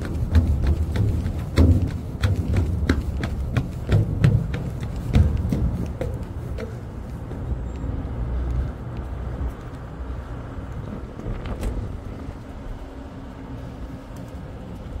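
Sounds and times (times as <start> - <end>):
ship machinery hum: 0.0 - 15.0
wind buffeting microphone: 0.0 - 15.0.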